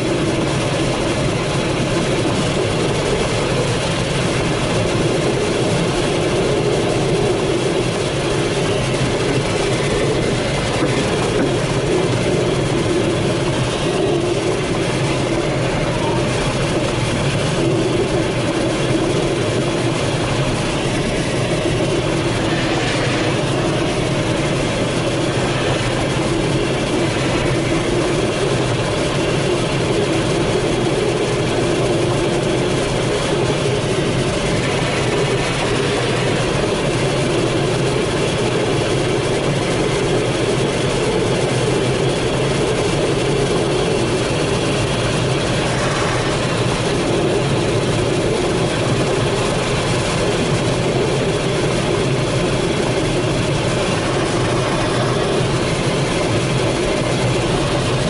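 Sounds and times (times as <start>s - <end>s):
airflow rushing around glider cockpit: 0.0s - 58.0s.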